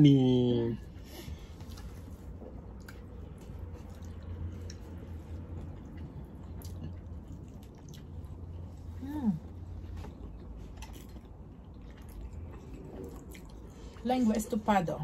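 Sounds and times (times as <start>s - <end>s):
people chewing food: 0.0s - 14.8s
steady low hum: 0.0s - 15.0s.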